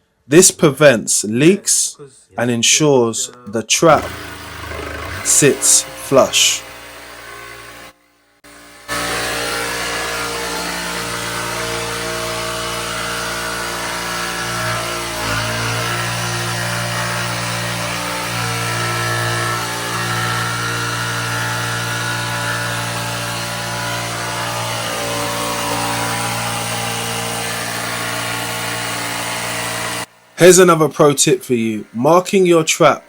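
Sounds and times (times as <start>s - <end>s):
electric power saw cutting plywood: 3.8s - 33.0s.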